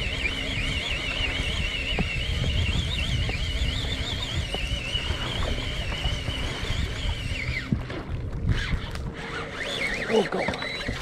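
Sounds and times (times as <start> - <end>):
fishing reel drag squealing: 0.0 - 11.0
wind buffeting microphone: 0.0 - 11.0.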